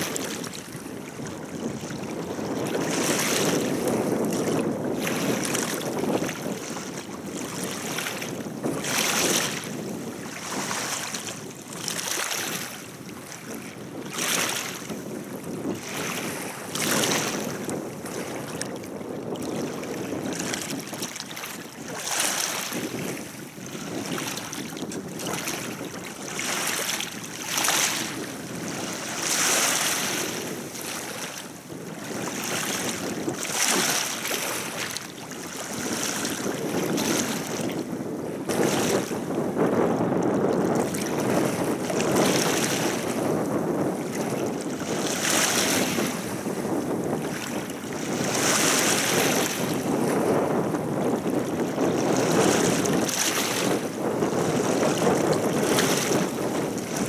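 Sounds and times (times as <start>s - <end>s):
wind blowing: 0.0s - 11.6s, 13.9s - 21.2s, 22.0s - 35.0s, 35.6s - 57.0s
river waves splashing: 0.0s - 57.0s.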